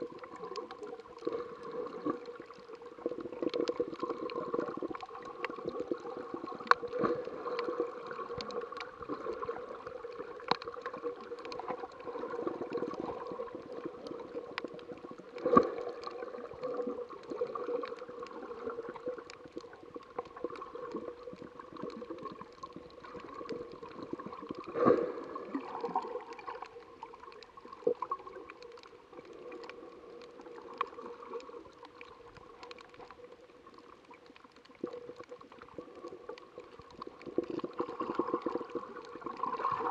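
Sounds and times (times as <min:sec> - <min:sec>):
small clicks and crackles: 0:00.0 - 0:39.9.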